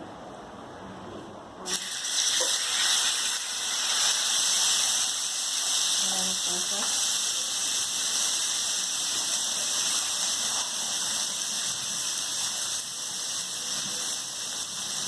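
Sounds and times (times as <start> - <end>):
chicken sizzling in hot oil: 1.7 - 15.0.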